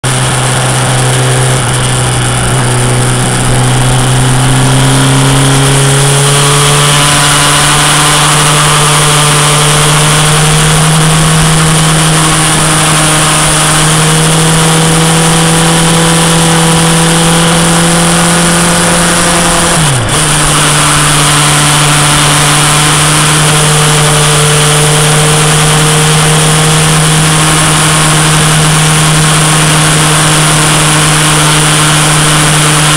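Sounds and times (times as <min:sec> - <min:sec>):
motorcycle engine running hard: 0:00.0 - 0:32.9.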